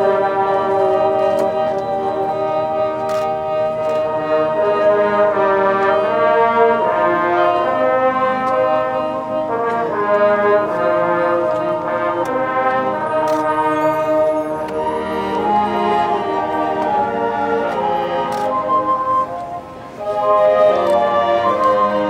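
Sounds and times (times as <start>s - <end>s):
brass playing held chords: 0.0s - 22.0s.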